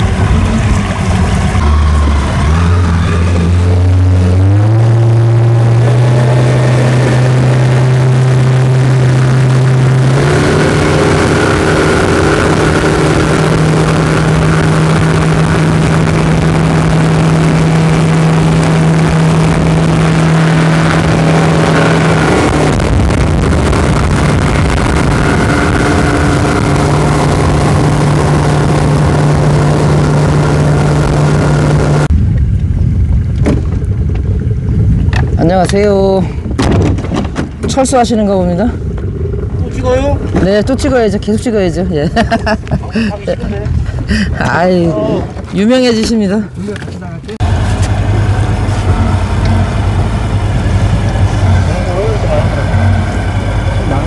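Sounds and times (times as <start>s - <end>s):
small boat engine running: 0.0s - 35.4s, 38.4s - 44.4s, 46.5s - 54.0s.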